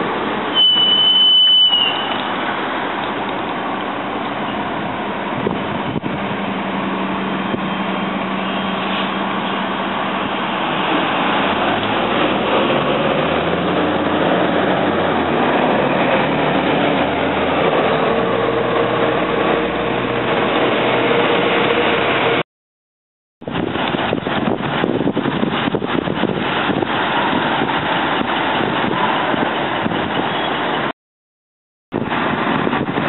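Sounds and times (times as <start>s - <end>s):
bus engine running: 0.0s - 0.6s, 2.0s - 22.4s, 23.4s - 30.9s, 32.0s - 33.0s
street traffic: 0.0s - 22.4s, 23.4s - 30.9s, 31.9s - 33.0s.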